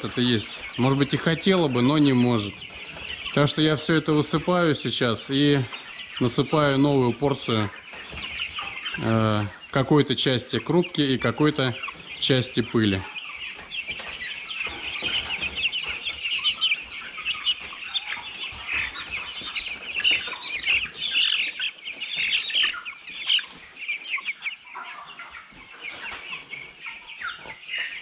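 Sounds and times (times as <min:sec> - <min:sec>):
chickens peeping and clucking: 0:00.0 - 0:28.0.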